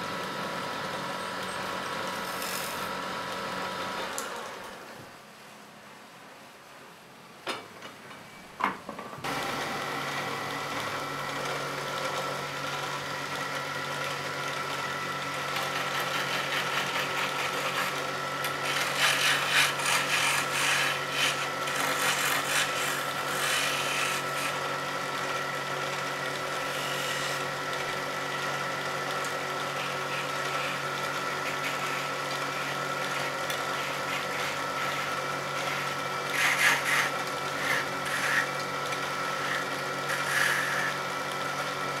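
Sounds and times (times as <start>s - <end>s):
wood lathe humming: 0.0s - 4.6s, 9.2s - 42.0s
chisel scraping spinning wood: 0.7s - 4.2s, 9.3s - 41.8s.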